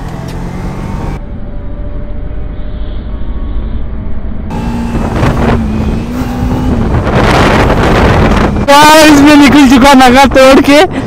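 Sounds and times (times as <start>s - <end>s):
wind rushing over microphone: 2.1s - 11.0s.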